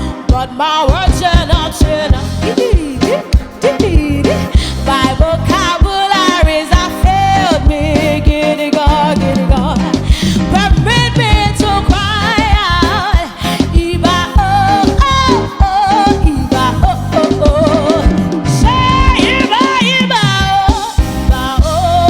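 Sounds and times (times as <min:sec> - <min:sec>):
band with drums and bass: 0:00.0 - 0:22.0
person singing with vibrato: 0:00.0 - 0:22.0.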